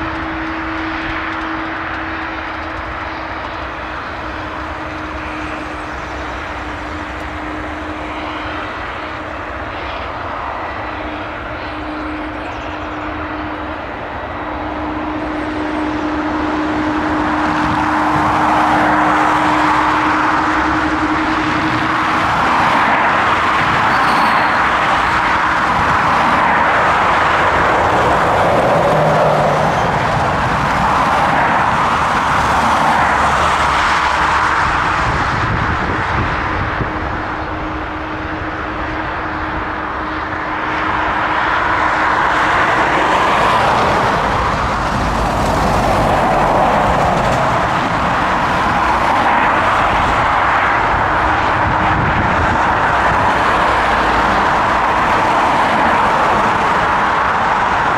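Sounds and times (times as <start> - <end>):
jet engine noise: 0.0 - 57.9.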